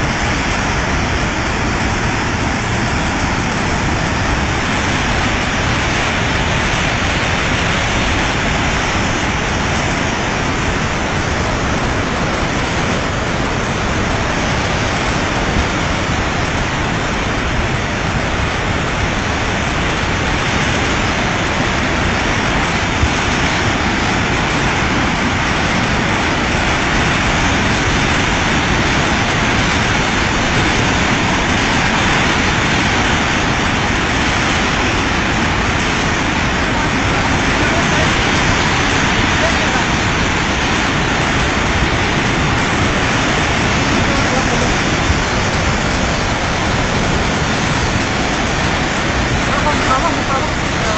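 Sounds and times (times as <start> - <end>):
floodwater rushing and churning: 0.0 - 50.9.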